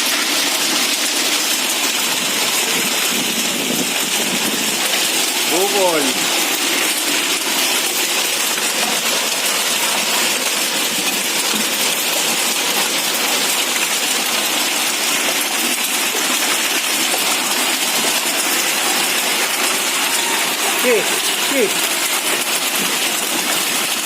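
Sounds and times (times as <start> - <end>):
hail and rain pelting: 0.0 - 24.0.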